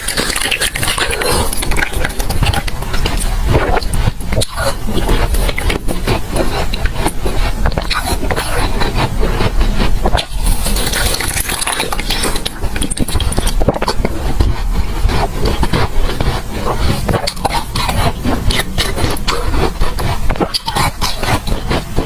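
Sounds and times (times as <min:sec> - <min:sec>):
chewing and crunching ice: 0:00.0 - 0:22.0.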